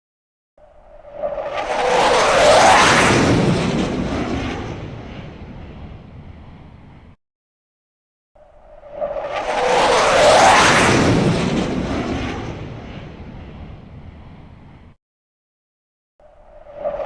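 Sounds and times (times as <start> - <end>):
fighter jet flying past: 0.6 - 7.2, 8.4 - 15.0, 16.2 - 17.0.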